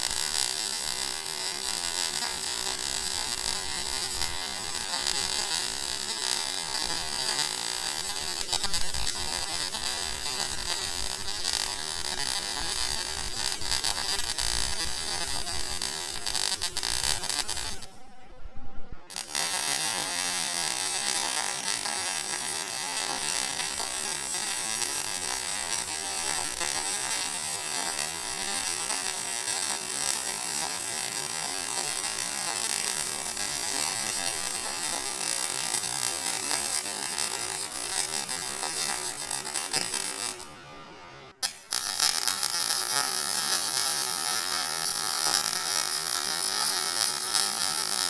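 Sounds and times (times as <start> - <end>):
welder arc buzzing crackle: 0.0 - 18.2, 19.0 - 48.0.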